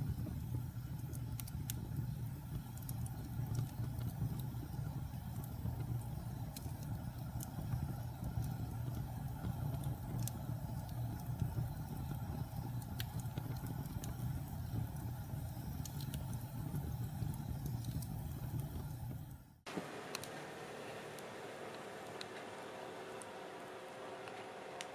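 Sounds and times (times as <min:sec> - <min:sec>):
fire roaring: 0:00.0 - 0:20.3
logs crackling and popping: 0:00.0 - 0:20.3.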